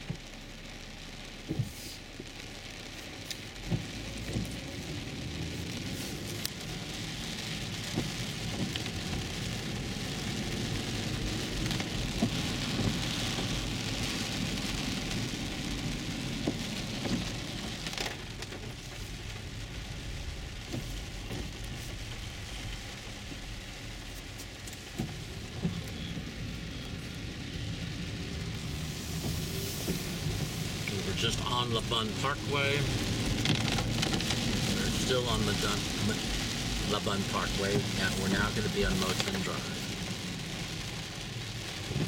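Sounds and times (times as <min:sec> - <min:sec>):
heavy rain on car roof: 0:00.0 - 0:42.0
road rumble: 0:00.0 - 0:42.0.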